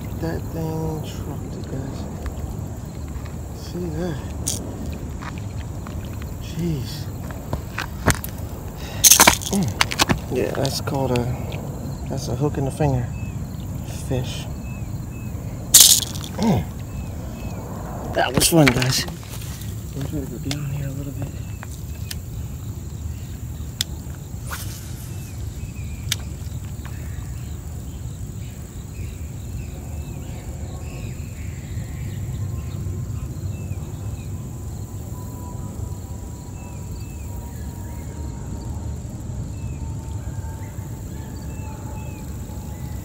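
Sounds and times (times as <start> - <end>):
insect drone: 0.0 - 43.0.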